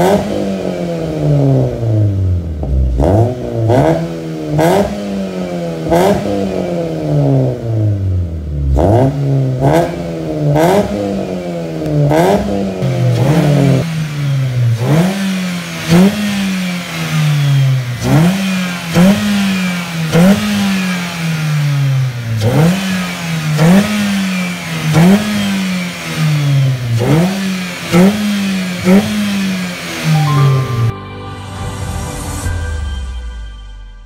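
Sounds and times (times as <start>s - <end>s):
car engine revving: 0.0s - 33.1s.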